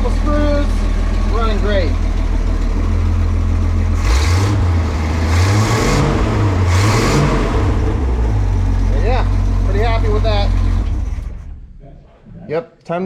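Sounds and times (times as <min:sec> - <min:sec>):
van engine running and revving: 0:00.0 - 0:11.8.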